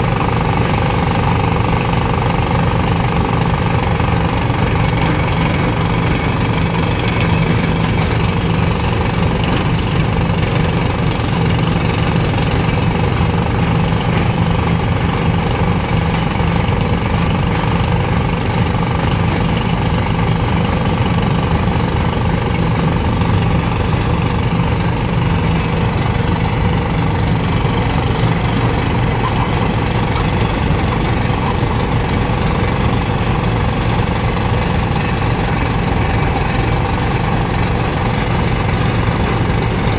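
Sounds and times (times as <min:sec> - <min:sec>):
diesel machinery knocking: 0:00.0 - 0:39.9.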